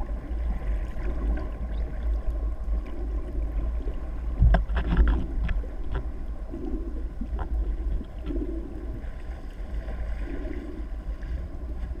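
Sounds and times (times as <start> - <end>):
underwater rumble: 0.0 - 12.0.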